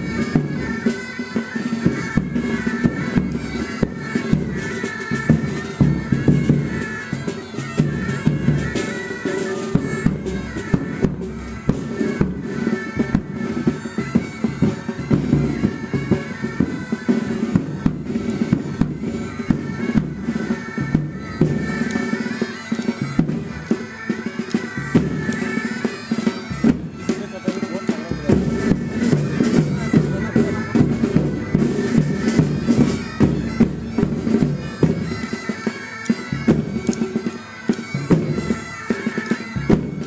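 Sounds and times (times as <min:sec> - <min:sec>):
snare and bass drums beating: 0:00.0 - 0:35.7, 0:36.3 - 0:40.0
bagpipes with drone: 0:00.0 - 0:40.0.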